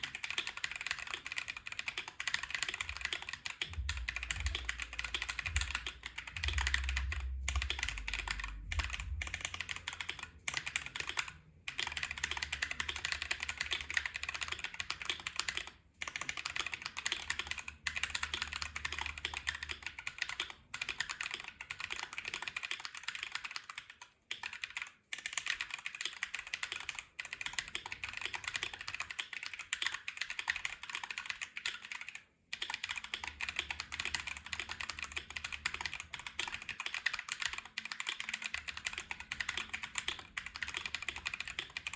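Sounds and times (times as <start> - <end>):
mechanical keyboard typing: 0.0 - 41.9.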